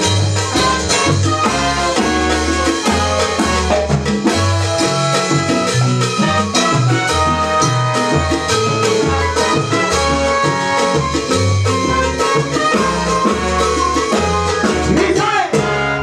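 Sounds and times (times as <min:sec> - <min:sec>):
salsa band playing: 0:00.0 - 0:16.0
trumpets: 0:00.0 - 0:16.0.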